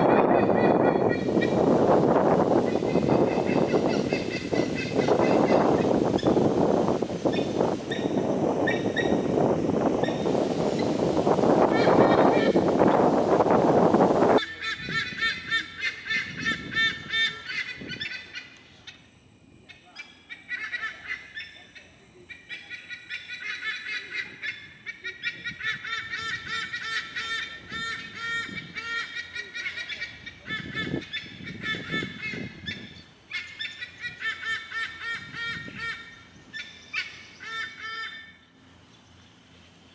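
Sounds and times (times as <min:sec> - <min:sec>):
eagles honking calls: 0:00.0 - 0:18.7, 0:20.3 - 0:38.4.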